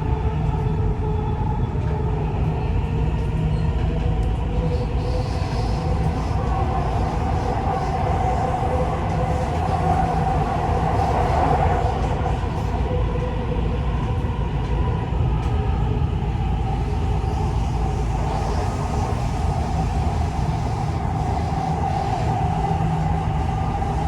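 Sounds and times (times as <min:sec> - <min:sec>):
train wheels rumbling on rail: 0:00.0 - 0:24.0
train whine: 0:00.0 - 0:24.0.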